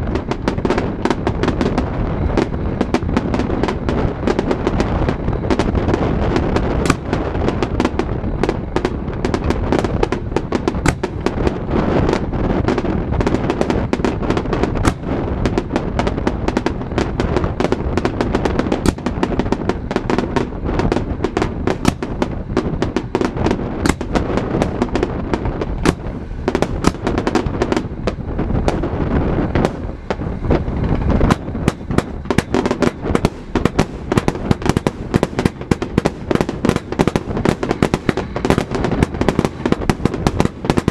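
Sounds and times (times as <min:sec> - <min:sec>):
fireworks bangs and crackles: 0:00.0 - 0:40.9
rumble of fireworks booms: 0:00.0 - 0:40.9.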